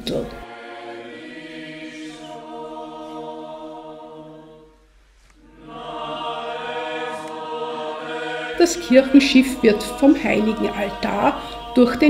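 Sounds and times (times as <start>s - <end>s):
choir chanting sustained chords: 0.0s - 12.0s.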